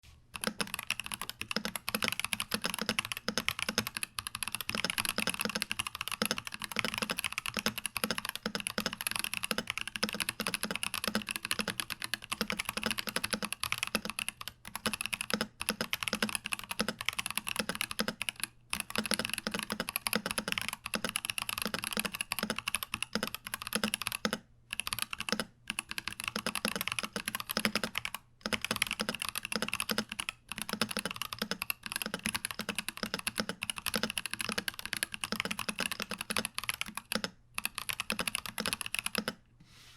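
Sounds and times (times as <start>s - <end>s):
mechanical keyboard typing: 0.3s - 39.4s.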